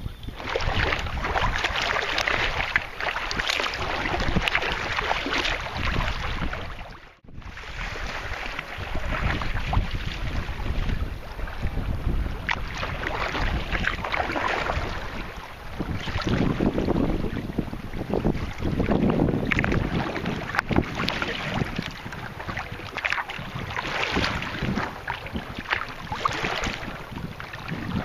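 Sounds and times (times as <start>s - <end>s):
small waves splashing: 0.0s - 28.0s
wind buffeting microphone: 0.0s - 28.0s
paddle strokes splashing: 0.3s - 28.0s.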